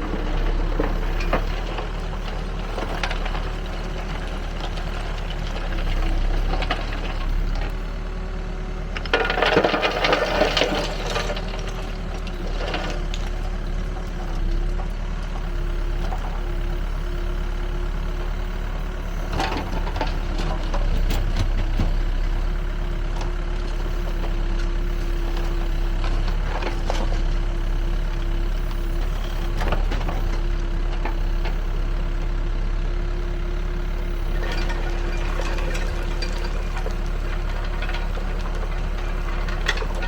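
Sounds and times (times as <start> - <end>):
soil and rubble clattering: 0.0 - 8.2, 8.8 - 40.0
diesel engine running: 0.0 - 40.0.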